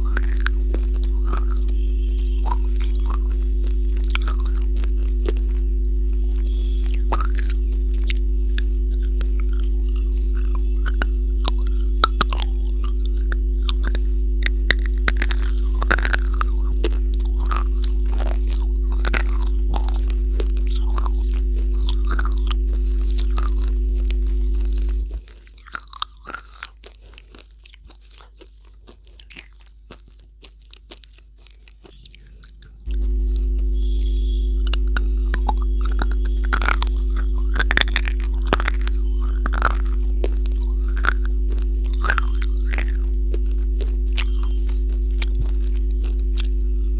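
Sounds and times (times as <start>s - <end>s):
crunching and chewing: 0.0s - 46.9s
steady electrical hum: 0.0s - 46.9s.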